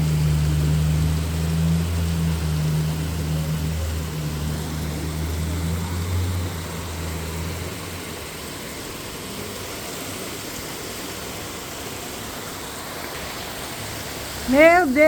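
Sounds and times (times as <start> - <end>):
rain falling: 0.0 - 15.0
vehicle engine hum: 0.0 - 15.0.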